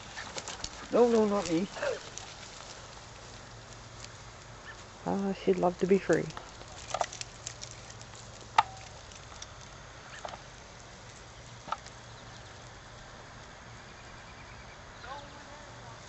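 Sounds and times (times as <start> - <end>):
faint low steady hum: 0.0 - 16.0.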